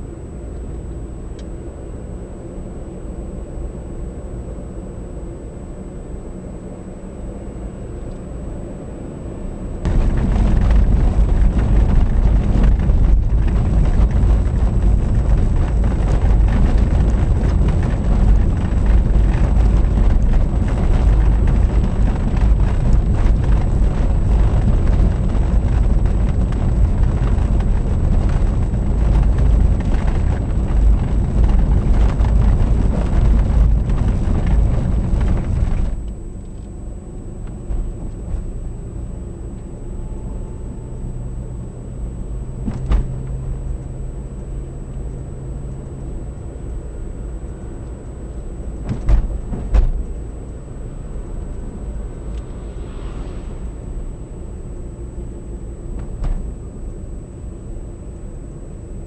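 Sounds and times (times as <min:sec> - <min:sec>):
car road and wind rumble: 0:00.0 - 0:59.0.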